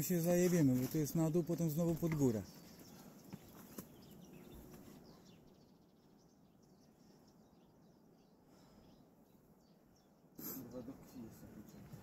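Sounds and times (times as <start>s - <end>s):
faint bird chirps: 1.0s - 12.0s.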